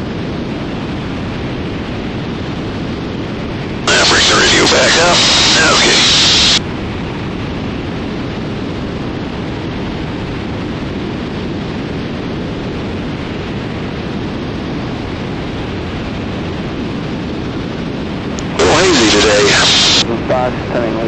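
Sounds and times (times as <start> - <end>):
airplane cruise drone: 0.0 - 21.0.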